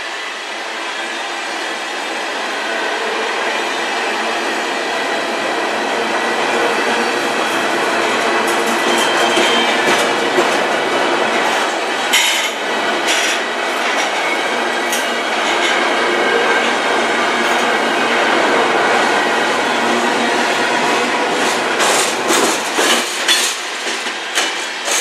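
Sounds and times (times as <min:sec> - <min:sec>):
steel wheels rumbling on rail: 0:00.0 - 0:25.0.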